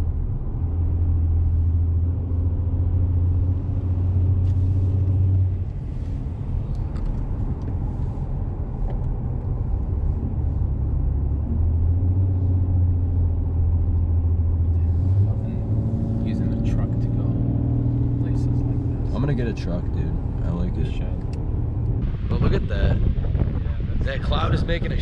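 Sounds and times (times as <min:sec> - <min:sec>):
truck engine and road drone: 0:00.0 - 0:25.0.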